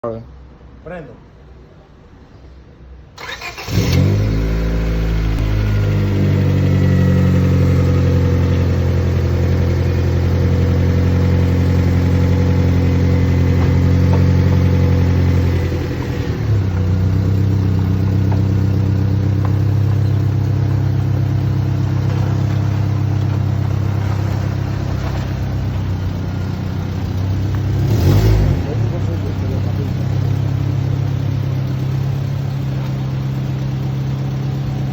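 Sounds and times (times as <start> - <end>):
car engine idling: 3.2 - 34.9.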